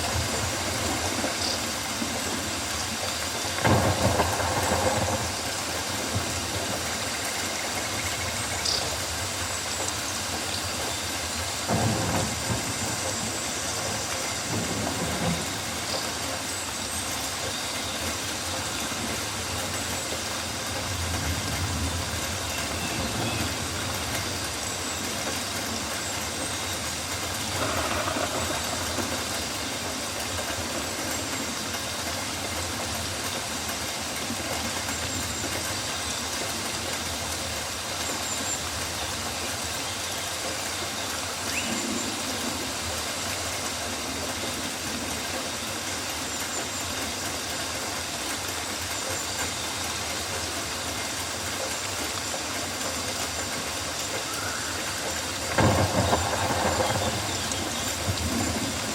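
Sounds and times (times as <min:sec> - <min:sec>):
rain on foliage: 0:00.0 - 0:58.9.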